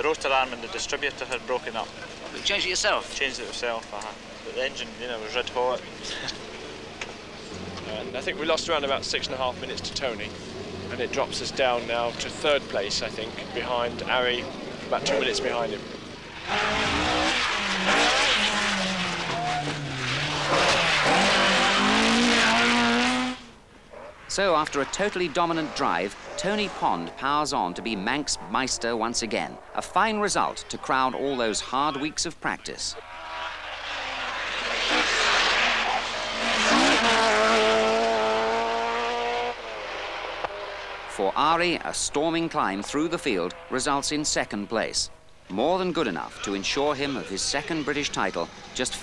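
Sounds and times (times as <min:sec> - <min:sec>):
rally car engine at full power: 0:00.0 - 0:32.0, 0:32.7 - 0:49.0.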